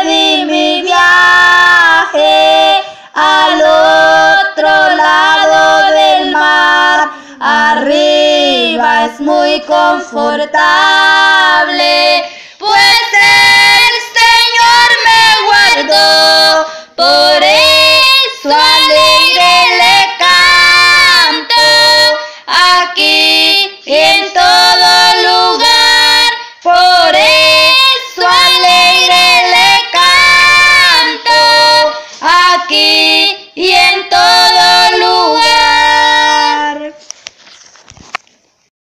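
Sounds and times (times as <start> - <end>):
high voice singing: 0.0 - 37.1.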